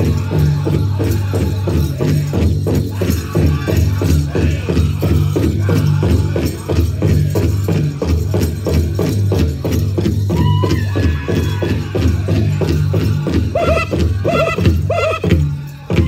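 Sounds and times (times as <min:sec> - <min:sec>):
group singing: 0:00.0 - 0:16.0
large drum steady beat: 0:00.0 - 0:16.0.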